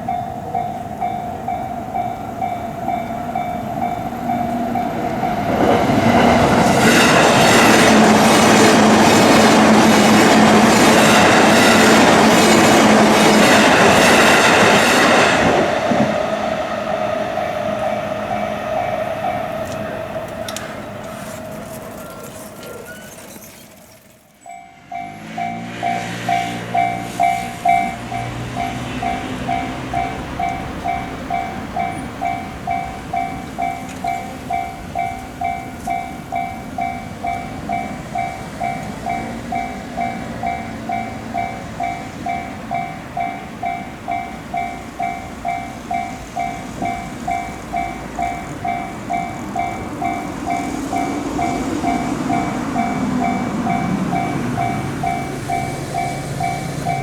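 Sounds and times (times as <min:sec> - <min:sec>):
level-crossing warning bell ringing: 0:00.0 - 0:57.0
train running noise: 0:00.0 - 0:57.0.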